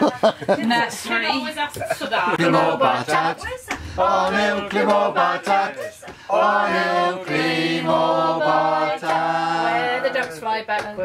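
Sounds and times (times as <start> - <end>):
group singing unaccompanied: 1.1 - 11.0.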